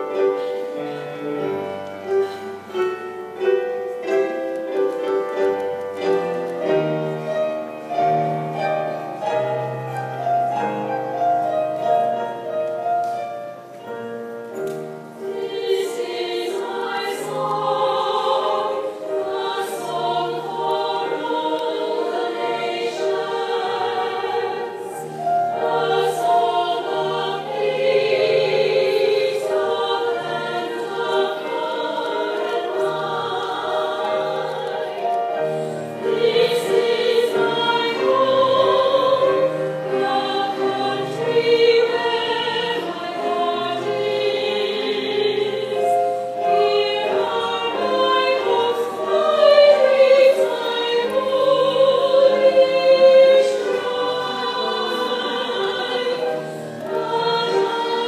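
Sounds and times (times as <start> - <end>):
choir singing: 0.0 - 58.0
piano accompaniment: 0.0 - 58.0.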